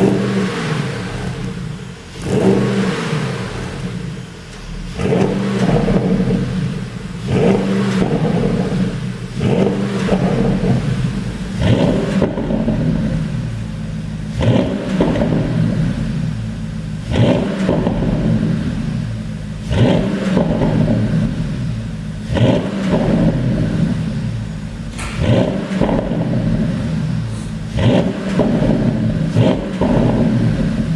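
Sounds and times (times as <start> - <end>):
car engine revving in blips: 0.0 - 30.9
exhaust pops and crackles: 0.0 - 30.9.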